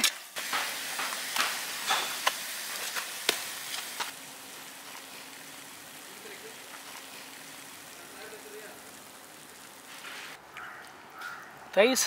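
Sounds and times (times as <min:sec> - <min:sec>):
meat sizzling in an iron pan: 0:00.0 - 0:10.4.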